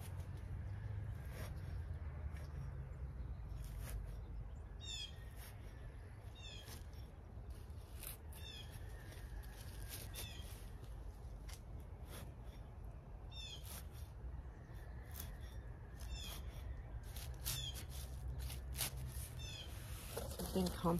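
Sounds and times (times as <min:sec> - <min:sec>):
garden fork crunching soil and leaves: 0:00.0 - 0:20.9.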